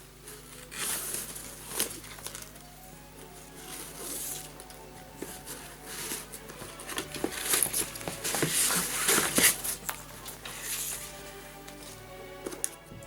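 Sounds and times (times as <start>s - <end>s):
ribbon rustling and crinkling: 0.1s - 12.8s.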